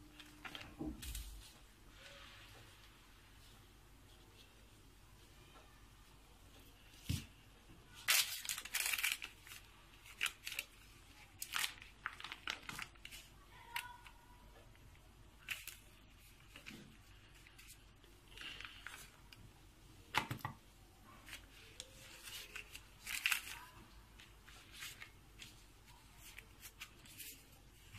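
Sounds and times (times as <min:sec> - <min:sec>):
pastry handling noises: 0:00.0 - 0:27.9.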